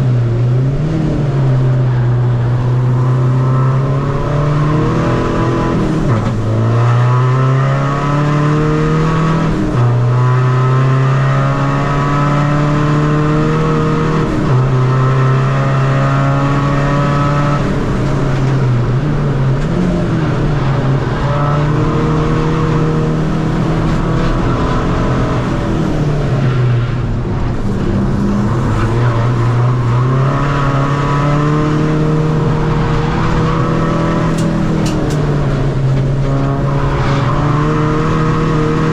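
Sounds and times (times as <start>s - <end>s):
diesel car engine revving: 0.0s - 38.9s.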